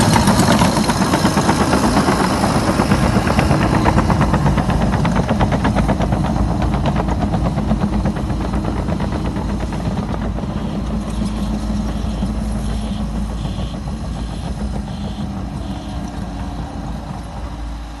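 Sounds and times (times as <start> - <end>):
diesel engine pulsing: 0.0 - 18.0.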